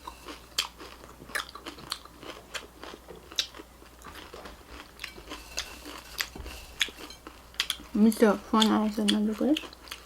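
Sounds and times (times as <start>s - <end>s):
crunching and chewing dry rice: 0.0s - 10.0s.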